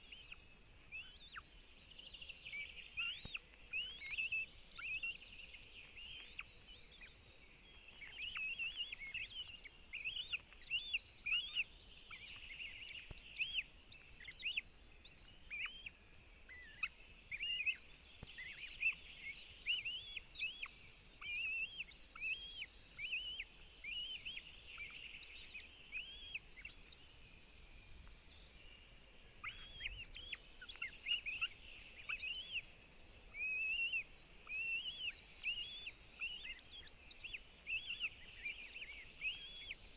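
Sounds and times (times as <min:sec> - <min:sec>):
faint hiss: 0:00.0 - 0:39.9.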